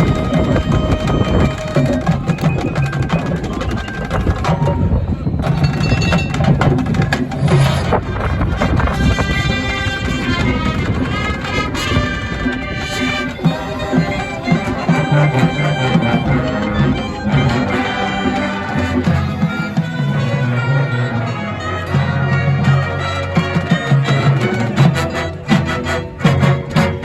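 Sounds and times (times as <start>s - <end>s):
instrumental music with brass: 0.0s - 27.0s.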